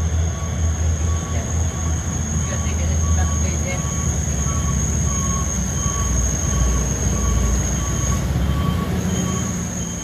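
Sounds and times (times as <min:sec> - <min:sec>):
diesel truck engine rumbling: 0:00.0 - 0:10.0
high-pitched whine: 0:00.0 - 0:10.0.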